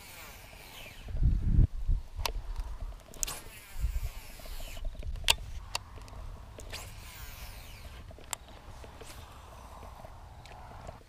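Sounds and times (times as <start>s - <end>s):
reel clicks: 0.0s - 1.3s, 2.0s - 11.0s
fishing reel whirring: 0.0s - 1.4s, 2.0s - 11.0s.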